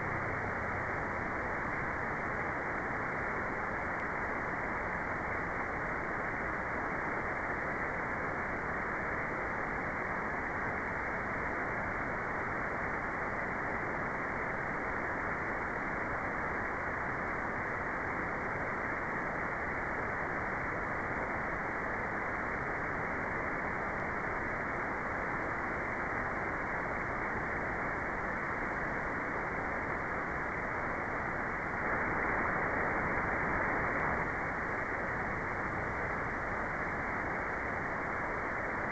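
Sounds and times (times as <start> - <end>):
muffled white noise hiss: 0.0 - 38.9.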